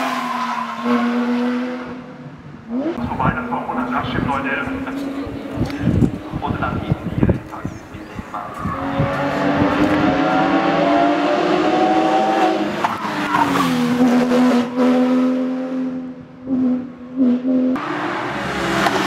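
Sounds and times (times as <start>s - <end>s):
car engine accelerating: 2.7s - 19.0s.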